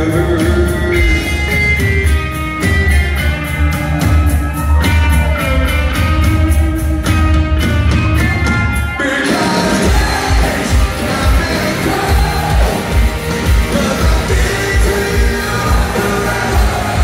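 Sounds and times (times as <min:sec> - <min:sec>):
hard rock band playing live: 0:00.0 - 0:17.0.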